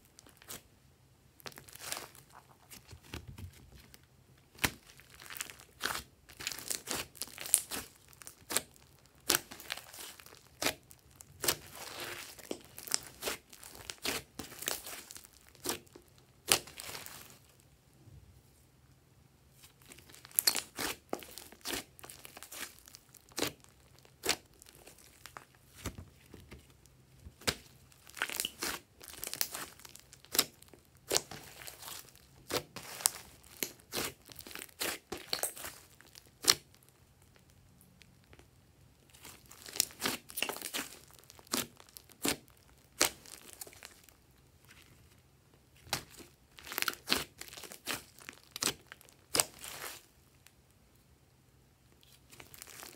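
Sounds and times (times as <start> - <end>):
slime squeezed and kneaded: 1.4 - 3.2, 4.5 - 17.6, 19.6 - 25.8, 27.3 - 37.3, 38.3 - 44.8, 45.8 - 50.1, 52.0 - 52.9.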